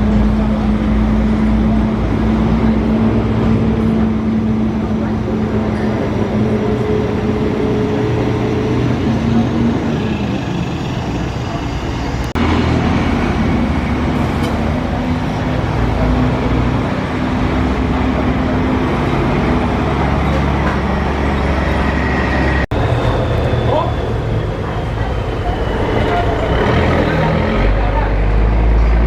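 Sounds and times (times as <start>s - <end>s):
road traffic noise: 0.0s - 29.0s
truck engines running: 0.0s - 29.0s.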